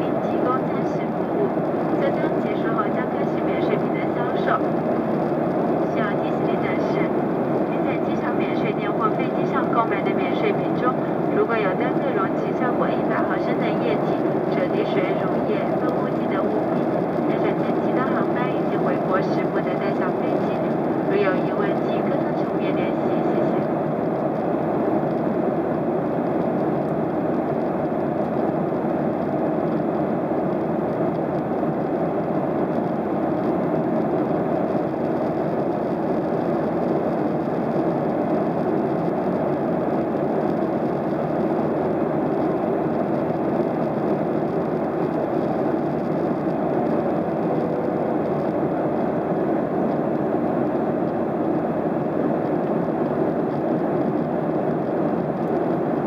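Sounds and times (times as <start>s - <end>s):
airflow rush in cabin: 0.0s - 56.0s
jet engines humming: 0.0s - 56.0s.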